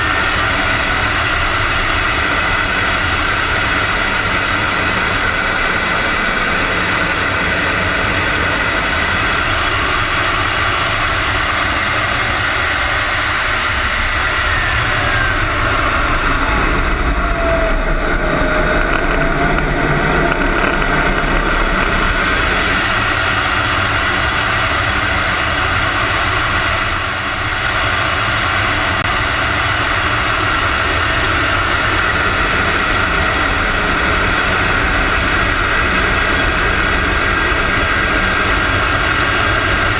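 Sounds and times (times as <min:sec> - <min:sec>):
model jet engine whine: 0:00.0 - 0:39.9.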